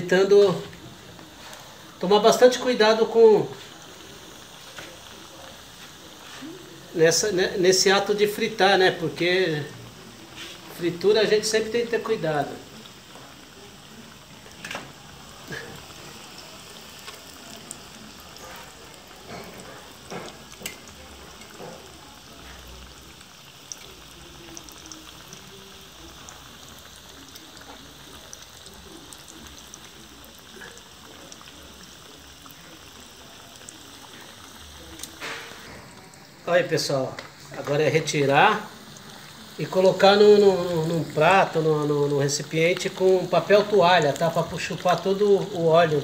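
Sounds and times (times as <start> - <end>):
oil popping: 0.0 - 46.0
shrimp sizzling in hot oil: 0.0 - 46.0.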